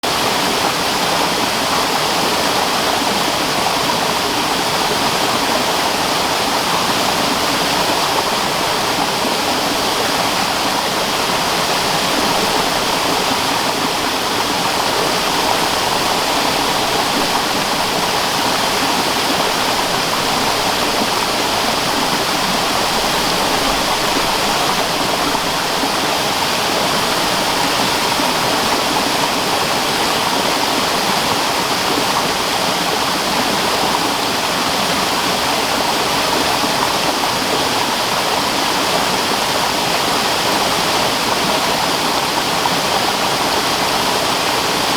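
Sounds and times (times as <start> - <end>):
stream water rushing and splashing: 0.0 - 44.9.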